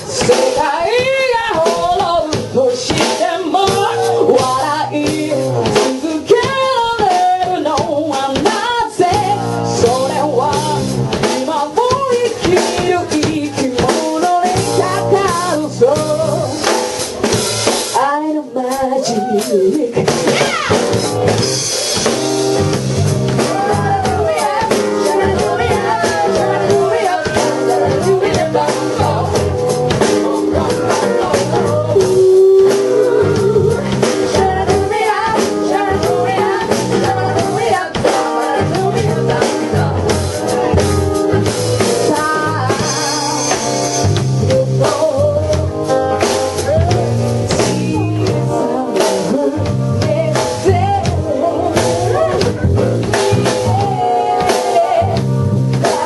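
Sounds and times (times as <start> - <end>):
person singing: 0.0 - 16.6, 23.3 - 56.0
drums: 0.0 - 56.0
guitar: 0.0 - 56.0.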